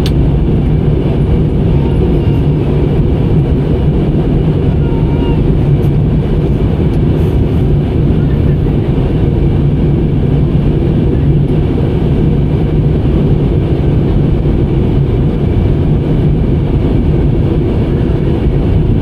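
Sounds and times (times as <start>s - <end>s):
jet engine cabin drone: 0.0s - 19.0s.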